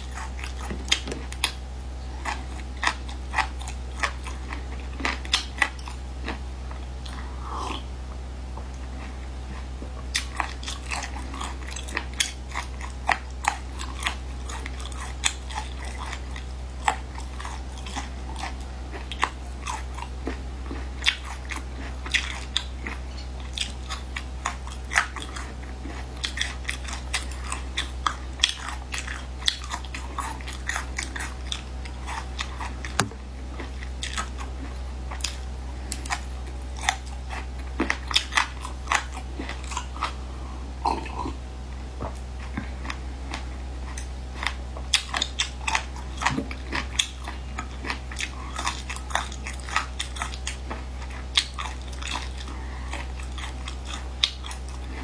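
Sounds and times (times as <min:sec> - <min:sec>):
chewing and biting: 0:00.0 - 0:07.9, 0:08.6 - 0:41.4, 0:42.0 - 0:55.0
steady low hum: 0:00.0 - 0:55.0.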